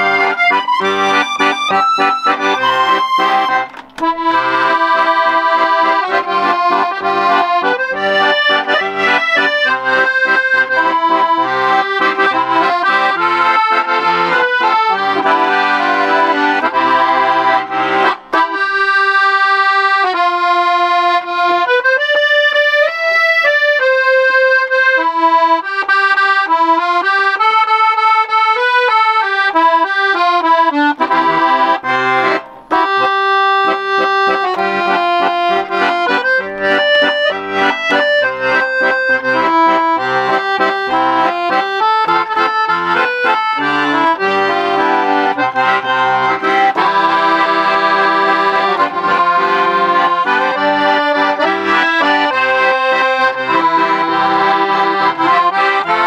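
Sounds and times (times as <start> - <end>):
accordion melody: 0.0 - 56.0
accordion oom-pah bass chords: 0.0 - 56.0.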